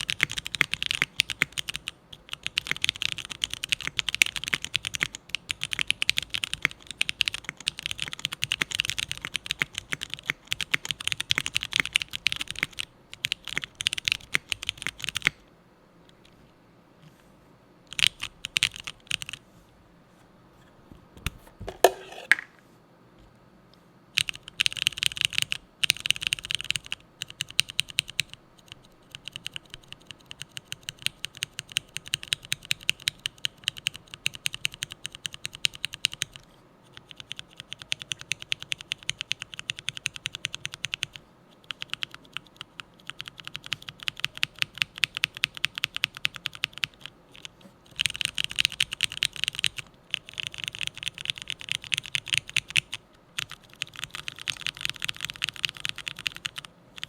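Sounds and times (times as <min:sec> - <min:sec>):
typing on mechanical keyboard: 0:00.0 - 0:15.4, 0:17.9 - 0:19.4, 0:24.2 - 0:57.0.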